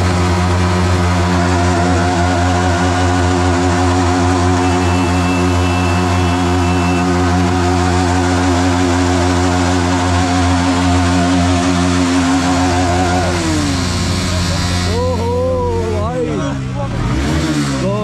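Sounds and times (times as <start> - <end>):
motorcycle engines at high revs: 0.0 - 18.0.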